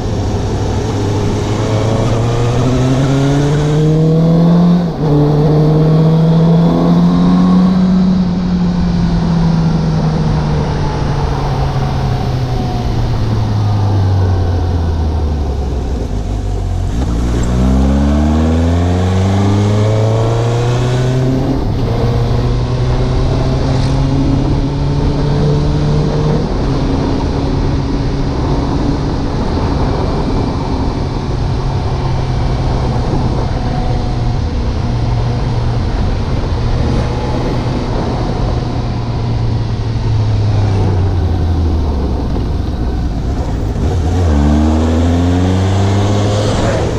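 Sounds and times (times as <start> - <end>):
motorcycle engine accelerating: 0.0 - 46.9
wind noise on microphone: 0.0 - 46.9.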